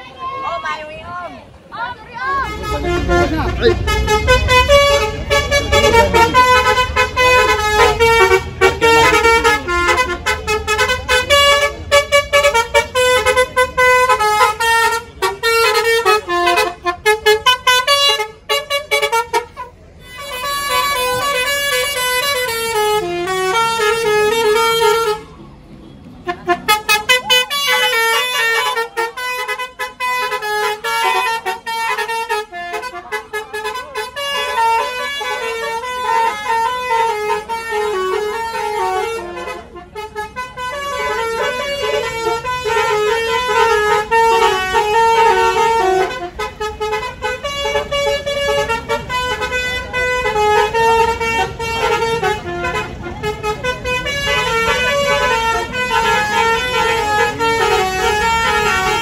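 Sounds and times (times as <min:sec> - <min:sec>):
musical air horn melody: 0:02.4 - 0:25.3, 0:26.2 - 0:59.0.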